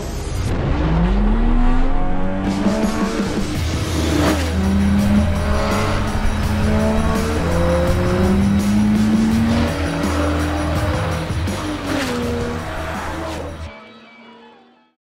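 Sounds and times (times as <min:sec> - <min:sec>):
background music: 0:00.0 - 0:15.0
race car engine accelerating: 0:00.5 - 0:14.4.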